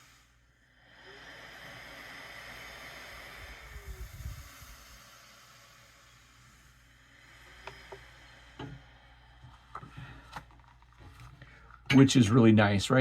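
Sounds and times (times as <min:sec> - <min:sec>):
faint air hiss from breathing machine: 0:00.0 - 0:12.2.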